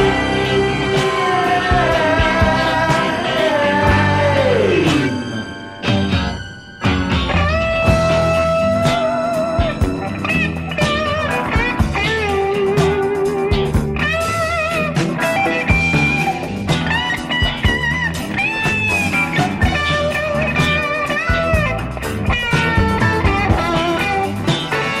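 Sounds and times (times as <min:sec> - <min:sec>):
bass: 0:00.0 - 0:25.0
drums: 0:00.0 - 0:25.0
electric guitar solo: 0:00.0 - 0:25.0.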